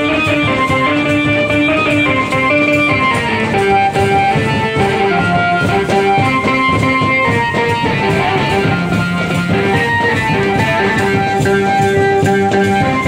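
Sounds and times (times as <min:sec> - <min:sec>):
dense busy beat: 0:00.0 - 0:13.0
held-note melody: 0:00.0 - 0:13.0.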